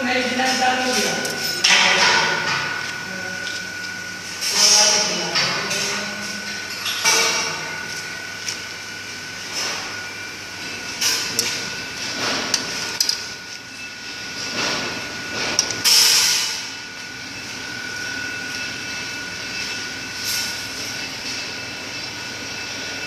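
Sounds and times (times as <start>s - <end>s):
welding machine whine: 0.0s - 23.0s.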